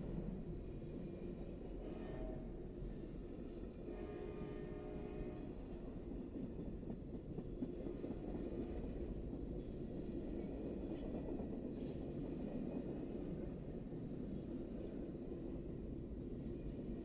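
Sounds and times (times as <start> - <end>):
train wheels rumbling on track: 0.1 - 17.0.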